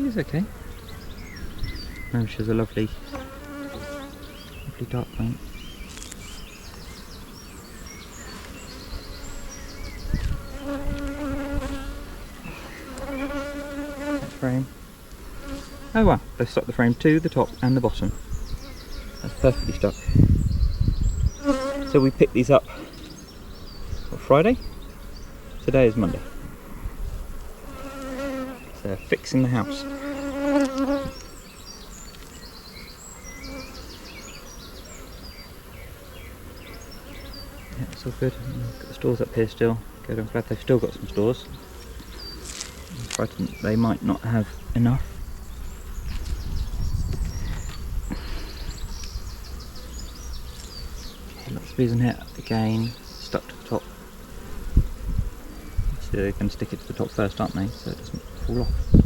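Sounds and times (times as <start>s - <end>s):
honeybees buzzing: 0.0s - 59.0s.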